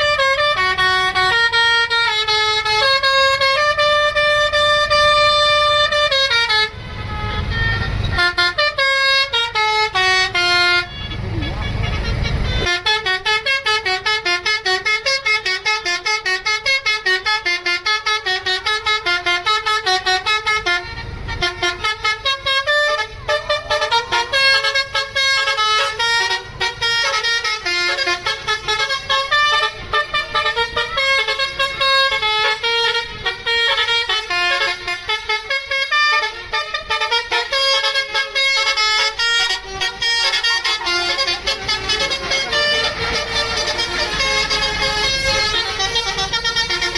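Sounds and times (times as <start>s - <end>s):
multi-tone bus horn tune: 0.0s - 46.9s.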